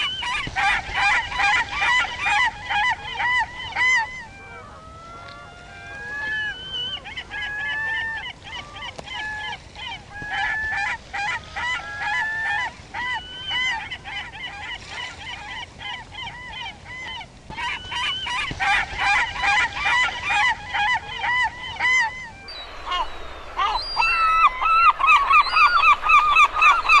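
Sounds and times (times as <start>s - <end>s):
seagulls squealing: 0.0s - 27.0s.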